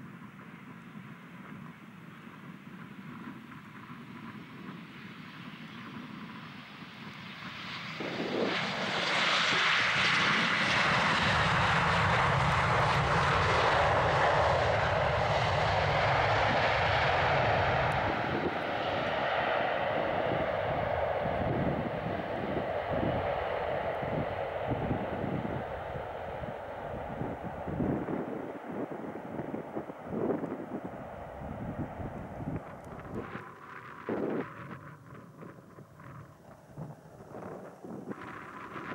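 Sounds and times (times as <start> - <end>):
jet airliner flying past: 0.0 - 38.9.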